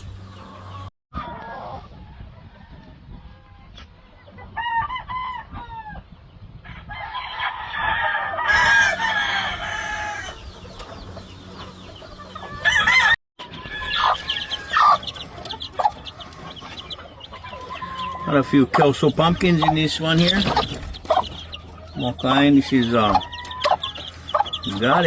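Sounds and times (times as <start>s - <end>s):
chickens clucking: 0.0s - 4.6s, 8.5s - 25.0s
roosters crowing: 4.4s - 25.0s.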